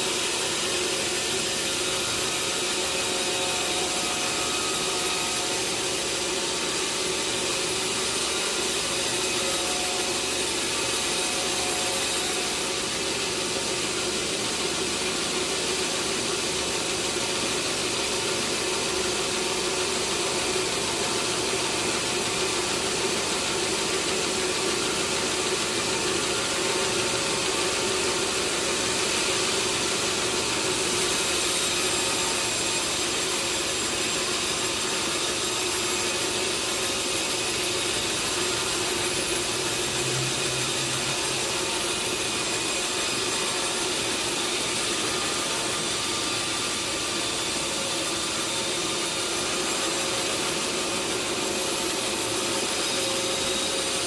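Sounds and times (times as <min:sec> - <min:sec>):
sawmill saw cutting log: 0:00.0 - 0:54.0.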